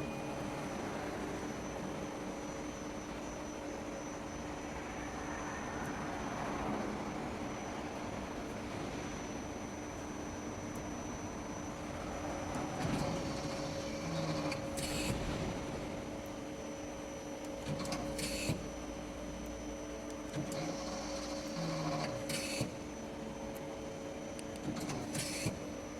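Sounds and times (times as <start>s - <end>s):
lathe humming with high whine: 0.0s - 25.9s.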